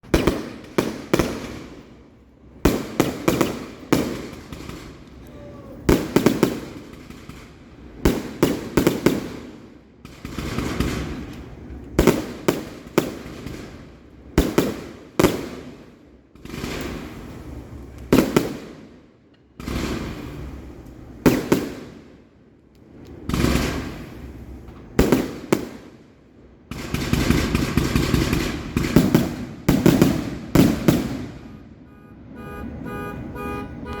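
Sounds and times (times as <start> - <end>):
fireworks bangs with crackle: 0.0 - 5.2, 5.8 - 22.3, 22.9 - 34.0.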